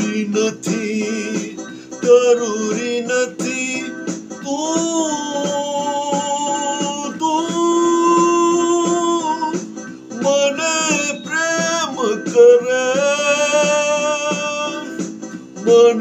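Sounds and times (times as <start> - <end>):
instrumental accompaniment: 0.0 - 16.0
man singing: 0.0 - 16.0.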